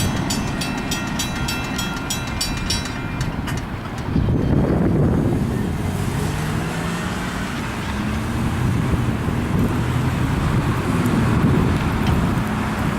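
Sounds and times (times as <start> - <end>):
tyre and road noise: 0.0 - 12.9
vehicle engines running: 0.0 - 12.9.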